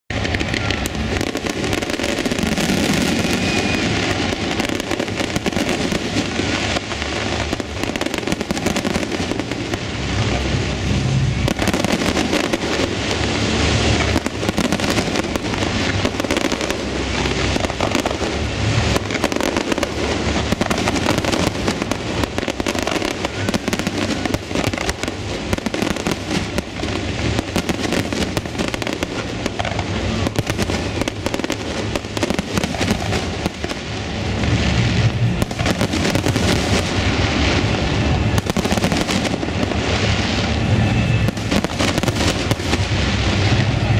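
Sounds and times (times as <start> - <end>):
fireworks bangs and pops: 0.1 - 43.9.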